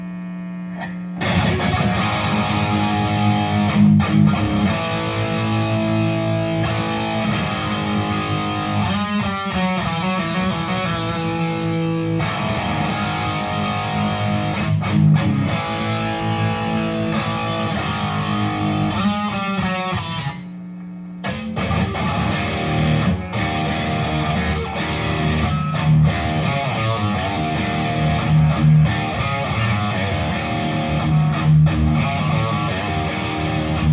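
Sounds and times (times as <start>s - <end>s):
guitar amp hum: 0.0s - 33.9s
electric guitar chords and riffs: 0.7s - 20.5s, 21.2s - 33.9s.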